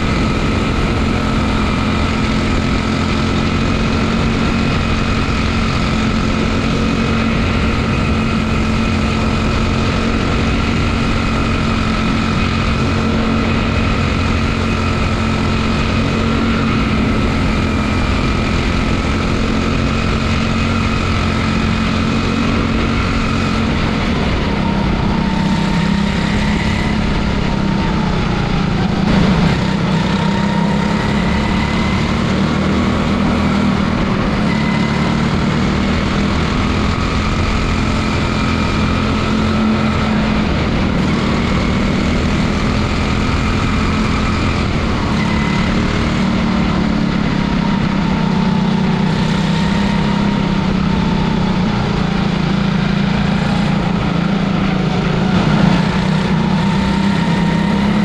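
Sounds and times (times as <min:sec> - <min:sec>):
small engine running at low revs: 0:00.0 - 0:58.0.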